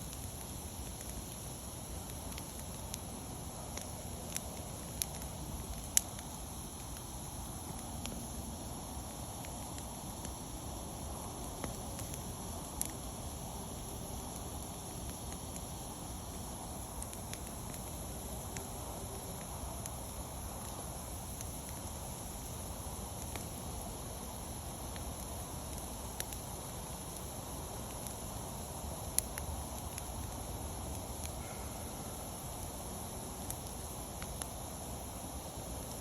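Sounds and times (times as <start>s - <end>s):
campfire burning: 0.0s - 36.0s
fire crackling and popping: 0.0s - 36.0s.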